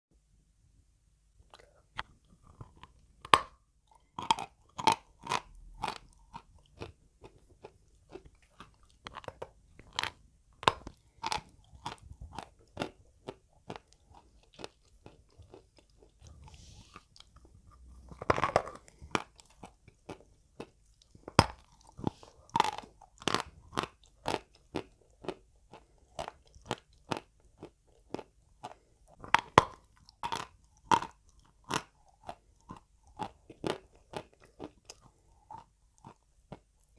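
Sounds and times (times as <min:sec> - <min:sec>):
chalk crunching while chewed: 0:01.5 - 0:36.9.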